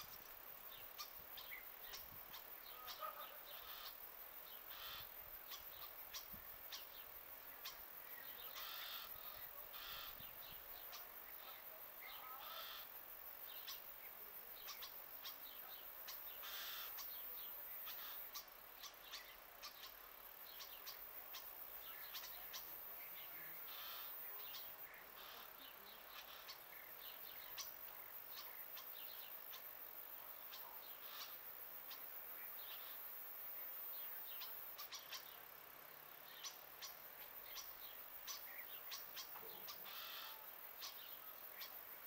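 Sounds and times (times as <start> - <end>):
small birds chirping: 0.0 - 42.0
steady high hiss: 0.0 - 42.0.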